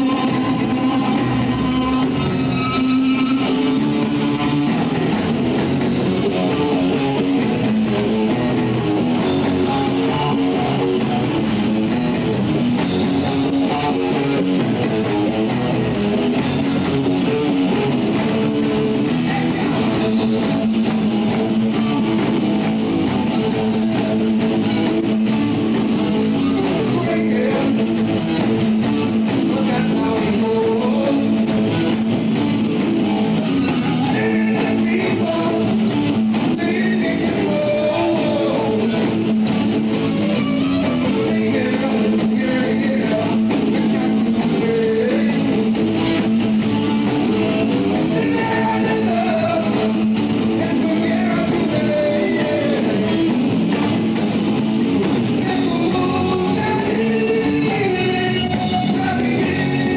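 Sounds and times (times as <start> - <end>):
electric guitar: 0.0 - 59.9
live rock band playing: 0.0 - 59.9.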